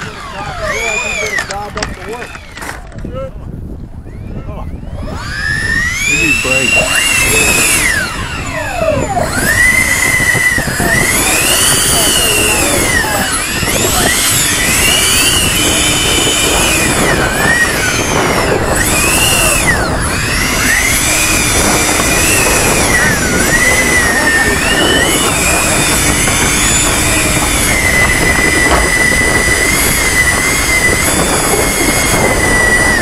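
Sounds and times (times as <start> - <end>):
electric fan motors whining: 0.0 - 33.0.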